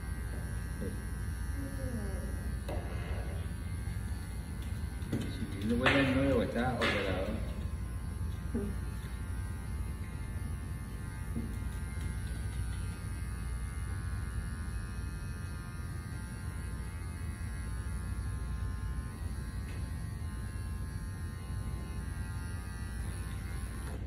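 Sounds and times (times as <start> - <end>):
electric clipper buzzing: 0.0 - 24.0.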